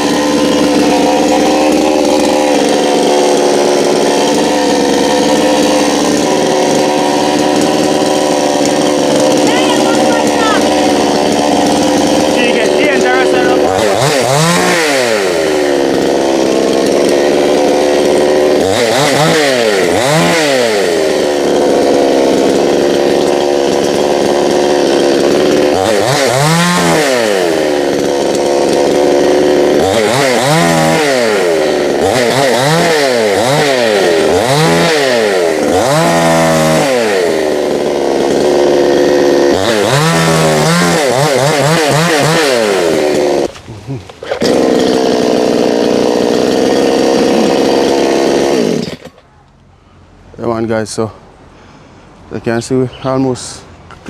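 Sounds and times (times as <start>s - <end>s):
chainsaw engine revving: 0.0s - 49.2s.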